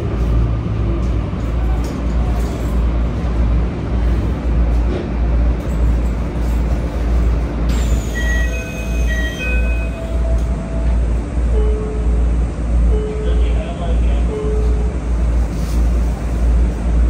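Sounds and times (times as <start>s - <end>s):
train wheels and motors rumbling: 0.0s - 17.0s.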